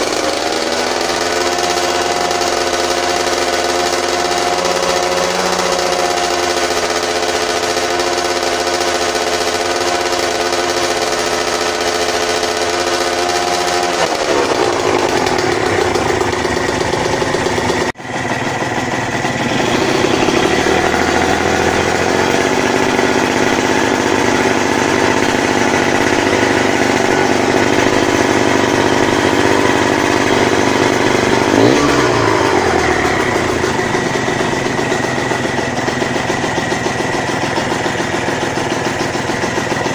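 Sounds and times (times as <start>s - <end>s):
engine revving: 0.0s - 39.9s
two-stroke engine idling: 0.0s - 39.9s.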